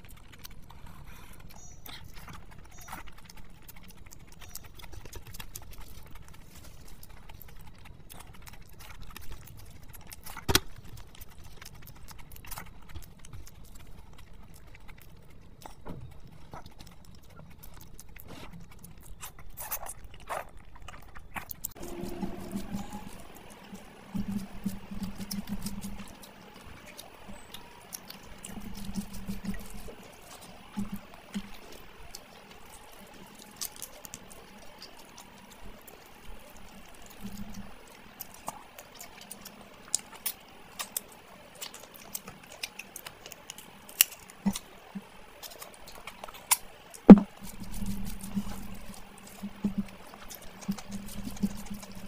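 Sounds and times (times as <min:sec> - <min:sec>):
wet chewing and smacking: 0:00.0 - 0:52.0.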